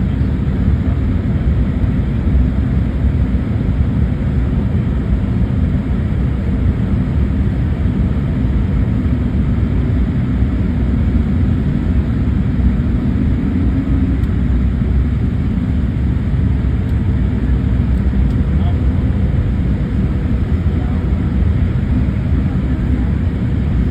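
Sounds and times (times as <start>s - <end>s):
jet engine rumble in cabin: 0.0s - 23.9s.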